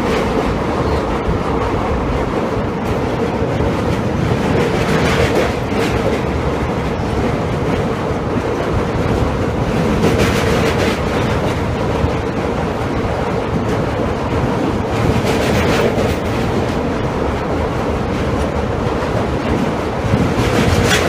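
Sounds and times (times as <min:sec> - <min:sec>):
steady train hum: 0:00.0 - 0:21.0
train wheels rushing on rails: 0:00.0 - 0:21.0.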